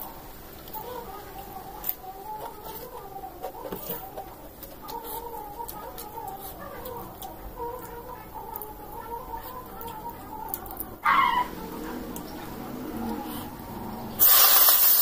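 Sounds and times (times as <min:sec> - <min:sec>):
chickens clucking: 0:00.0 - 0:14.2.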